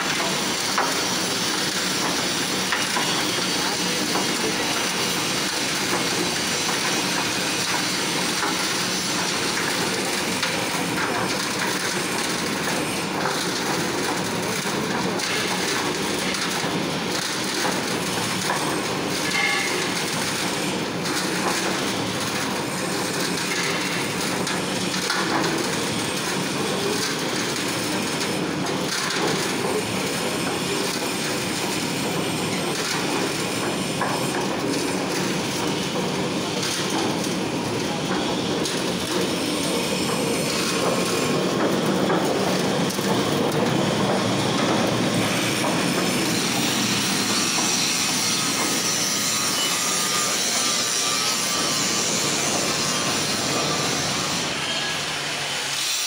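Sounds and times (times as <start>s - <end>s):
concrete mixer running: 0.0s - 56.0s.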